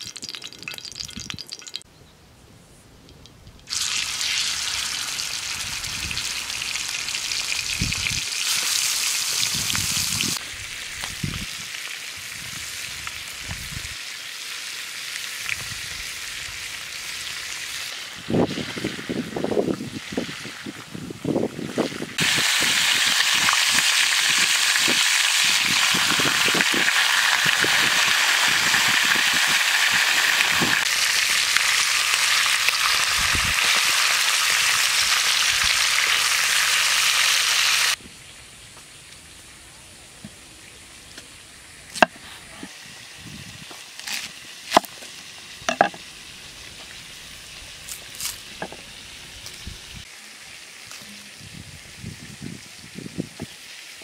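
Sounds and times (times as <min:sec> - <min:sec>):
food sizzling in hot oil: 0:03.7 - 0:38.0, 0:42.8 - 0:54.0.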